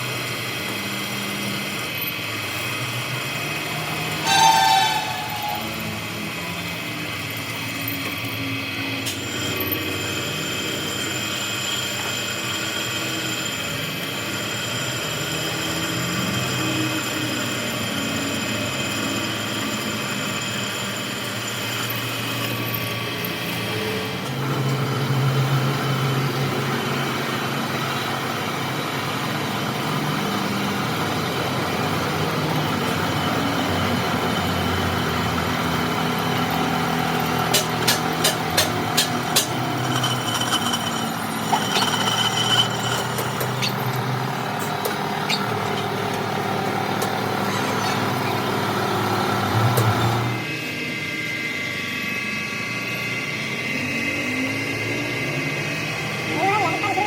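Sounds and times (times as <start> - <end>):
workshop machinery running: 0.0 - 57.0.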